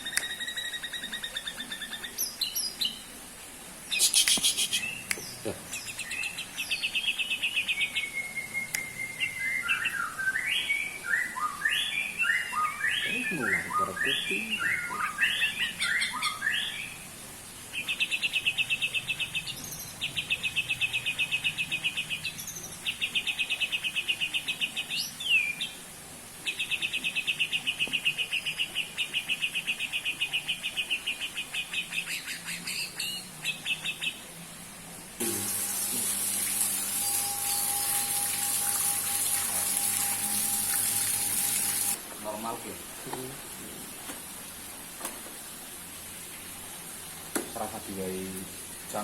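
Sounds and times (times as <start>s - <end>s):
steady hiss with low hum: 0.0s - 49.0s.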